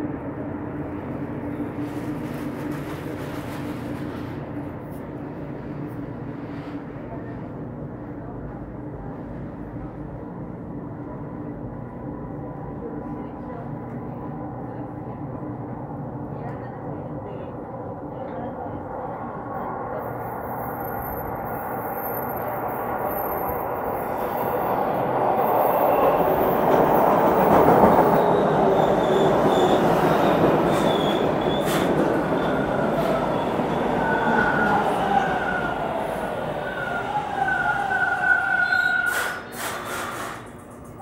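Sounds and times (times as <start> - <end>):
subway train rumble: 0.0 - 41.0.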